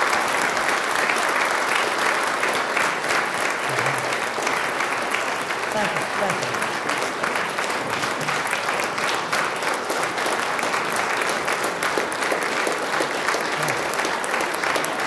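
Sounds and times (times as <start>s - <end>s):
people applauding: 0.0s - 15.0s.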